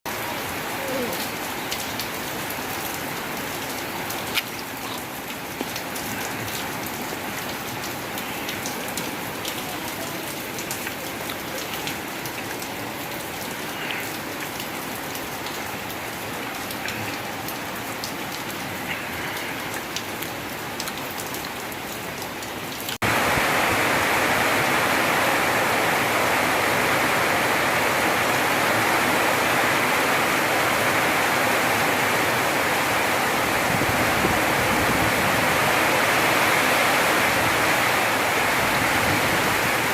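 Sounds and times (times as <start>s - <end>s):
rain falling: 0.1s - 39.9s.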